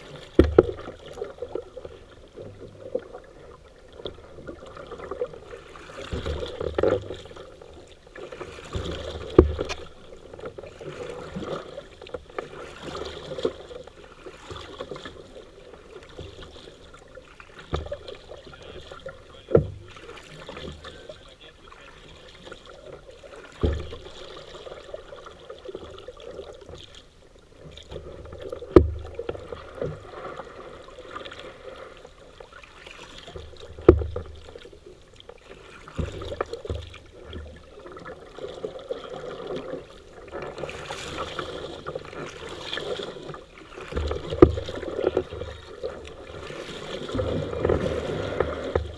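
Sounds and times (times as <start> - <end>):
paddle strokes swishing through water: 0.0 - 48.9.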